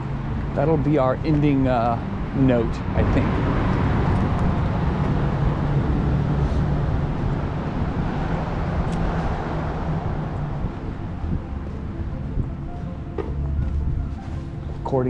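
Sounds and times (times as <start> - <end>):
rumble of road traffic: 0.0 - 15.0.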